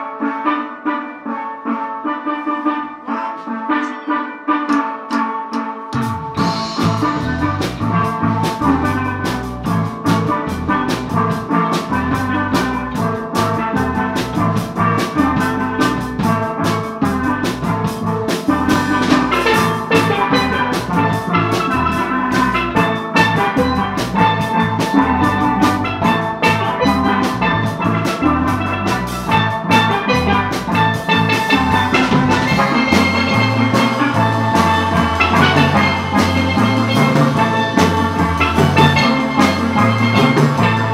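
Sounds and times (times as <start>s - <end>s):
steel pans playing: 2.5s - 40.9s
drum kit: 3.1s - 40.9s
electric bass guitar: 6.0s - 40.9s.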